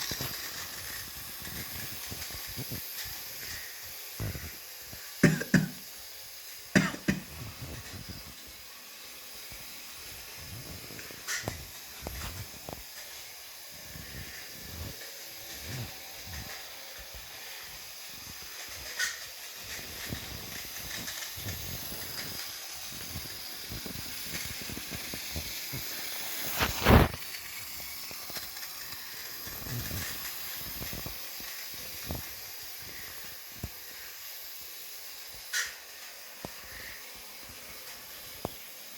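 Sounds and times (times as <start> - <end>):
model train hissing: 0.0 - 38.9.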